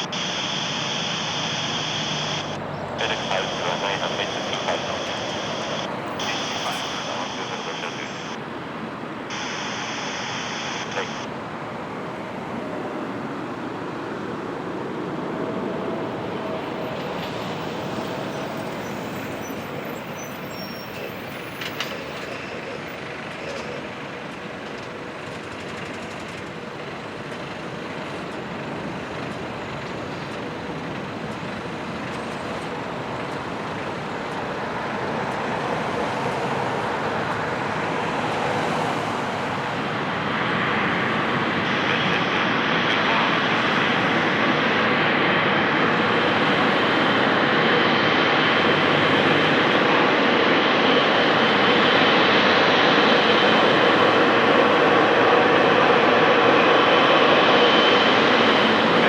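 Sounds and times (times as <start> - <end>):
jet airliner rumble: 0.0 - 59.0.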